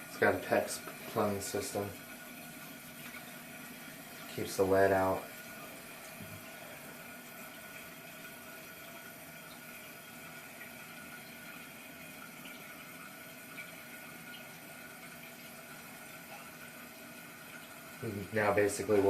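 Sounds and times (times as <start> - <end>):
water hissing into toilet tank: 0.0 - 19.0.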